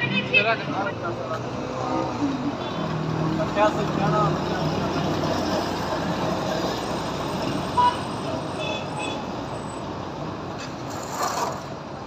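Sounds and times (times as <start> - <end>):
traffic: 0.0 - 12.0.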